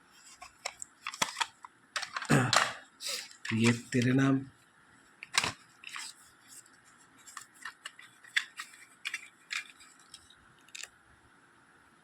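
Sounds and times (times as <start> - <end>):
plastic cassettes clicking and scraping: 0.2 - 4.1, 5.2 - 11.0.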